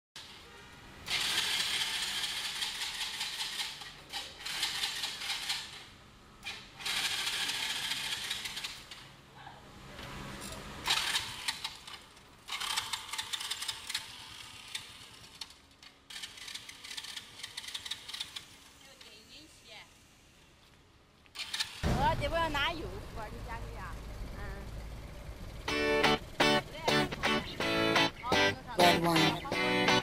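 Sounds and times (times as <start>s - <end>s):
quad bike engine rattling: 1.1s - 9.1s, 10.8s - 19.2s, 21.4s - 30.0s.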